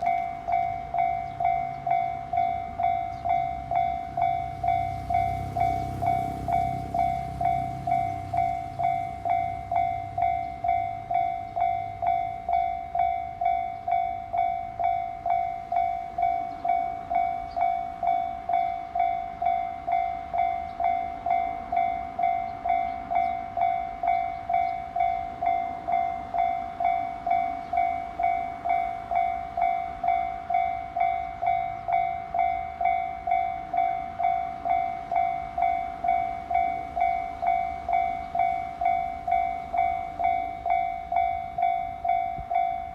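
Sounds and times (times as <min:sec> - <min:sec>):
level-crossing alarm dinging: 0:00.0 - 0:42.9.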